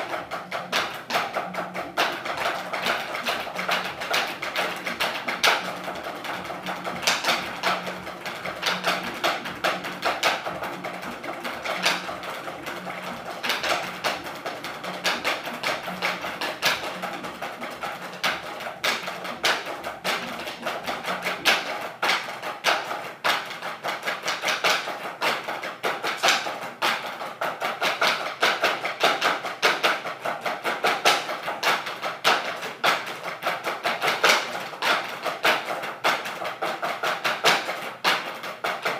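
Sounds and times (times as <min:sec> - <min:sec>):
drumsticks on practice boards: 0:00.0 - 0:38.9.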